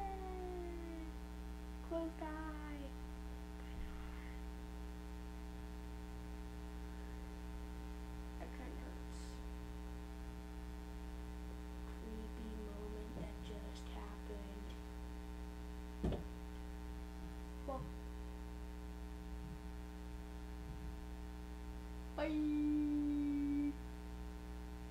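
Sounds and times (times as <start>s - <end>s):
electrical hum: 0.0s - 24.9s.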